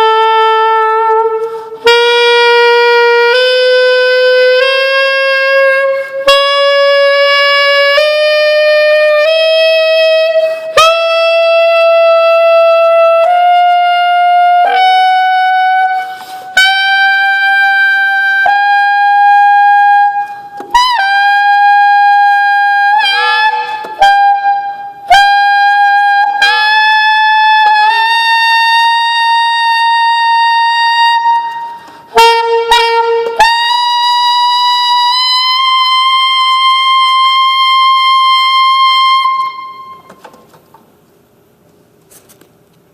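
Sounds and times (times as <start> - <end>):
saxophone long held notes: 0.0 - 40.2.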